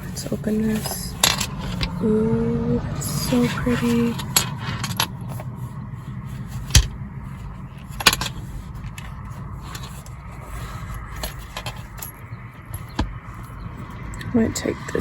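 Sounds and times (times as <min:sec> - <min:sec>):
passing cars: 0:00.0 - 0:15.0
wind rumble: 0:00.0 - 0:15.0.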